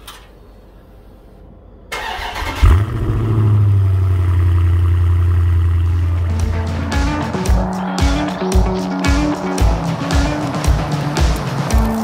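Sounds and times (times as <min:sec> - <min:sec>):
car engine starting and idling: 0:01.9 - 0:12.0.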